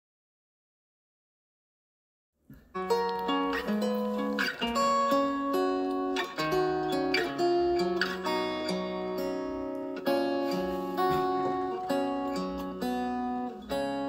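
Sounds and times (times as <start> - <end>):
acoustic guitar ballad: 2.6 - 14.0.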